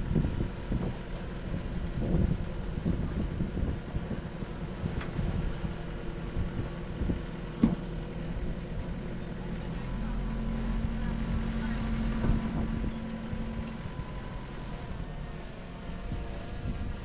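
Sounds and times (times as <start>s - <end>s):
diesel engine running: 0.0s - 17.0s
steady higher hum: 0.0s - 17.0s.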